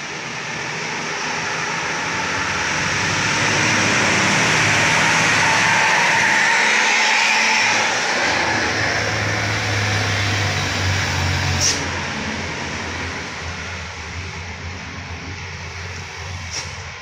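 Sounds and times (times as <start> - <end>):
bus engine and tyre noise: 0.0 - 17.0.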